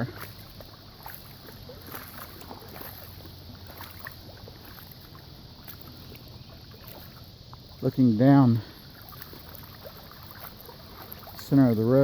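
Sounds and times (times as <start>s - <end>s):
floodwater washing: 0.0s - 12.0s
water trickling and splashing: 0.0s - 12.0s.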